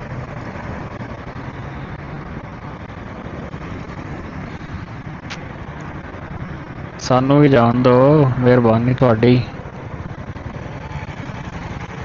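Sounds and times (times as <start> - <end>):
motorcycle engine rumble: 0.0 - 12.0
road and traffic noise: 0.0 - 12.0.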